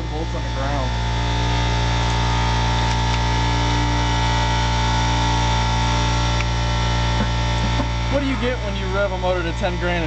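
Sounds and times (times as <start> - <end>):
machine drone: 0.0 - 10.0.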